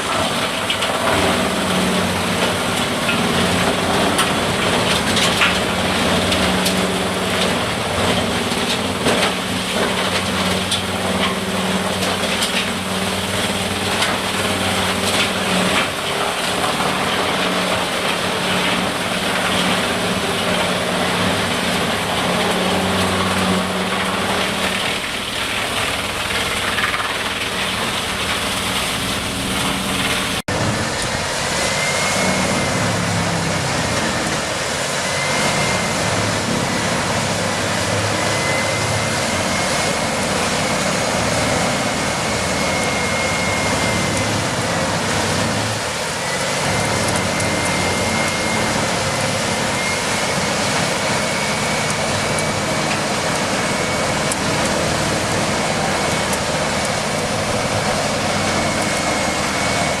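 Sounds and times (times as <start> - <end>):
heavy machinery engine hum: 0.0 - 60.0.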